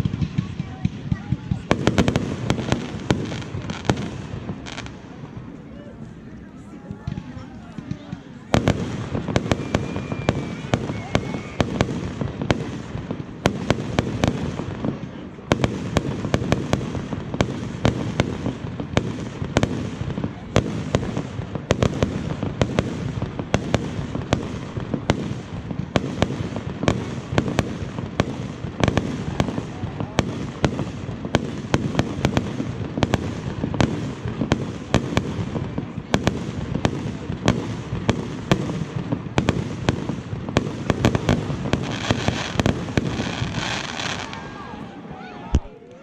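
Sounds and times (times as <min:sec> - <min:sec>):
fireworks bangs: 0:00.0 - 0:45.8
fireworks hiss: 0:07.1 - 0:44.6.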